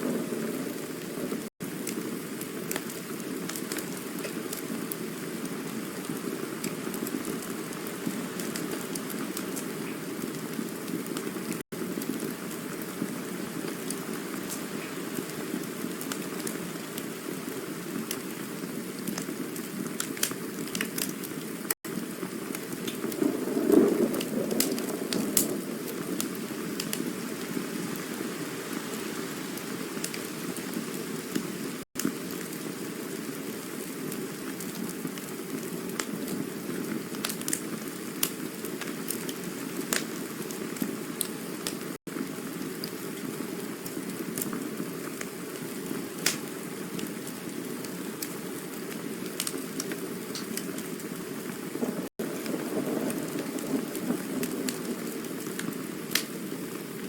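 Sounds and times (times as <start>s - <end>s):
campfire hissing and crackling: 0.0s - 57.0s.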